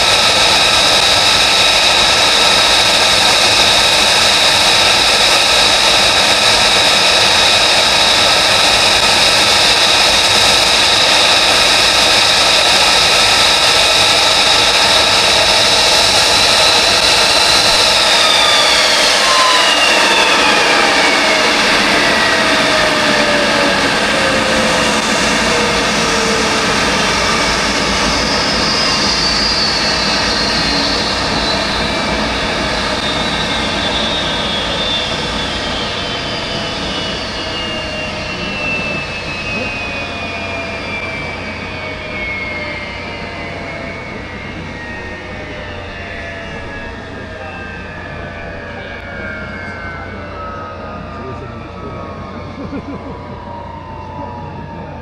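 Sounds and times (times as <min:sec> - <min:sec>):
jet engine whine: 0:00.0 - 0:55.0
loud jet noise: 0:00.0 - 0:55.0.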